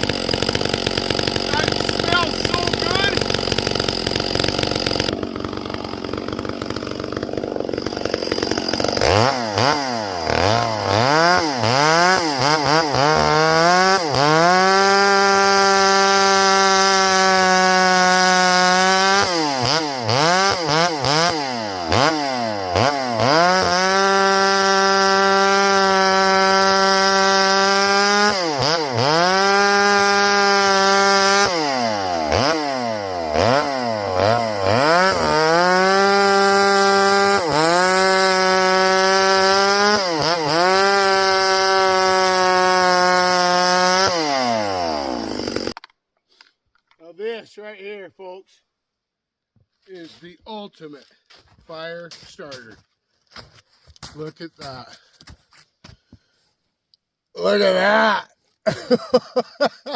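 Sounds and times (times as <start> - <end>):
chainsaw revving and cutting log: 0.0 - 45.9, 57.4 - 59.9.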